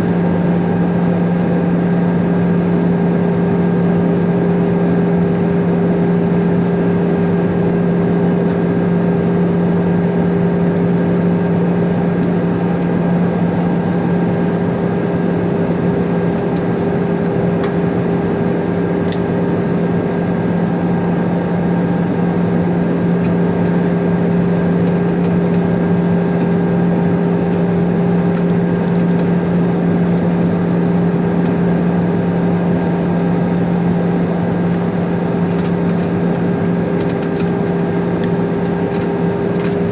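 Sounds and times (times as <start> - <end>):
aircraft engines droning: 0.0 - 39.9
constant tonal hum: 0.0 - 39.9.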